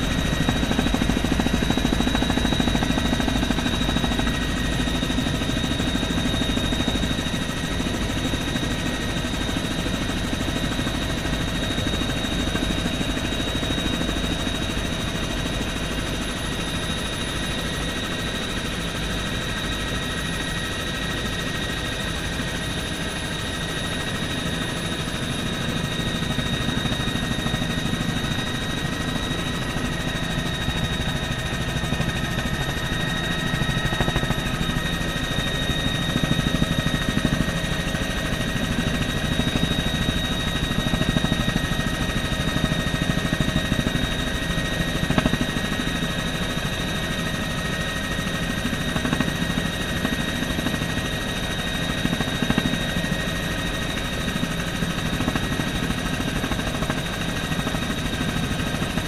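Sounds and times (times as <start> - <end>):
helicopter rotor and turbine whine: 0.0 - 59.0.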